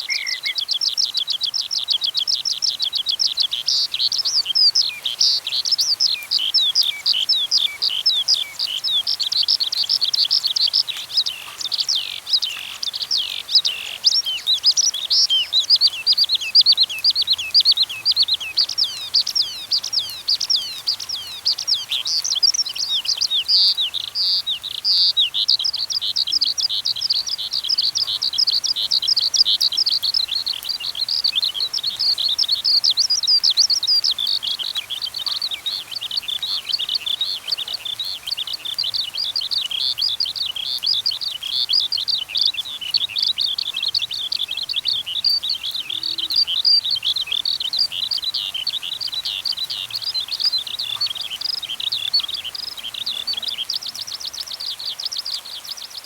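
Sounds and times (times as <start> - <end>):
songbird twittering: 0.0 - 56.0.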